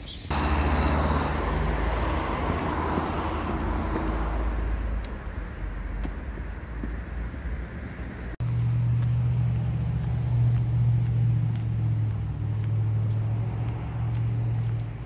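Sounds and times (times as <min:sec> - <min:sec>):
vehicle low rumble: 0:00.0 - 0:15.0
low engine hum: 0:00.3 - 0:15.0.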